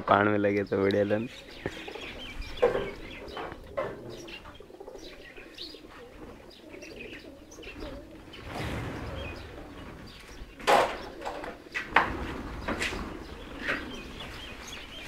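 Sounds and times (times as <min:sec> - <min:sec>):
bird chirps: 0:00.5 - 0:11.4, 0:12.5 - 0:15.0
pigeons cooing: 0:00.7 - 0:15.0
wings fluttering: 0:01.4 - 0:15.0.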